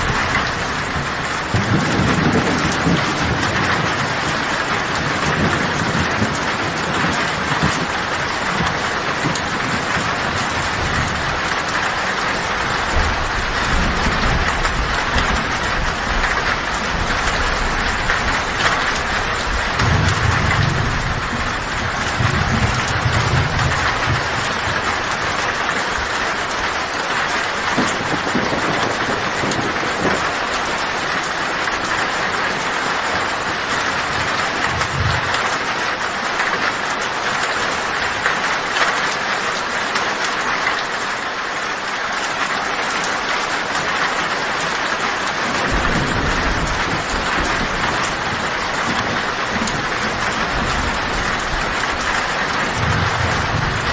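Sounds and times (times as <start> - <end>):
low thunder rumbles: 0.0 - 36.5, 44.8 - 53.9
heavy rain on a tin roof: 0.0 - 53.9.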